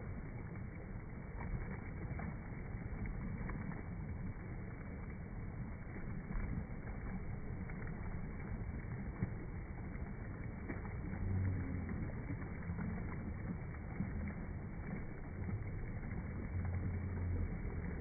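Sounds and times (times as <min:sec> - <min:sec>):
deep low rumble: 0:00.0 - 0:18.0.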